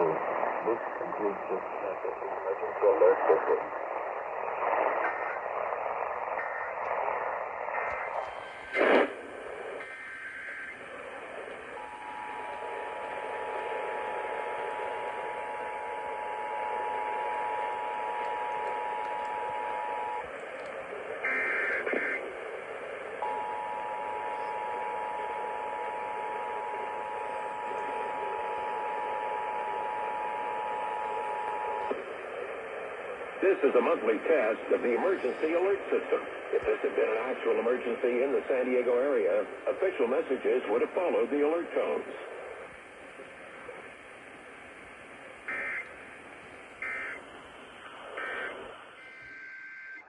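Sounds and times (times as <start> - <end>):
radio hiss and static: 0.0 - 50.0.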